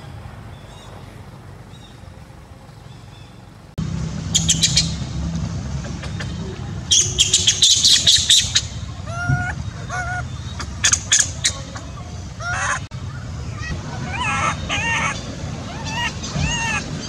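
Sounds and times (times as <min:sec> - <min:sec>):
birds squawking and chirping: 0:00.0 - 0:02.1, 0:04.2 - 0:17.0.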